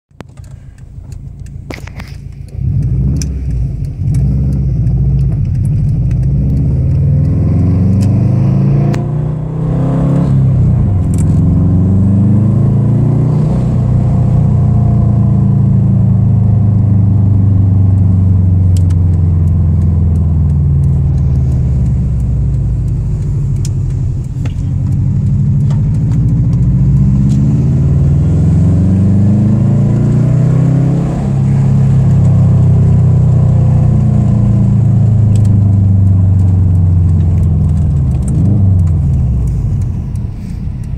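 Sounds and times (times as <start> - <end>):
car engine accelerating through gears: 0.2 - 40.9.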